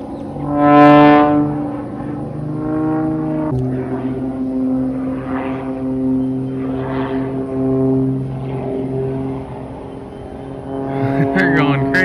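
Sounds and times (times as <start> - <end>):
propeller airplane droning overhead: 0.0 - 12.0.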